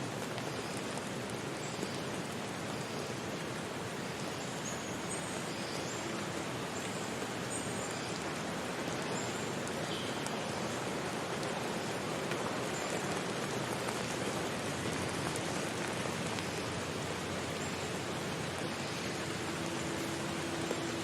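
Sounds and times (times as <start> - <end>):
hiss of falling water: 0.0 - 21.0.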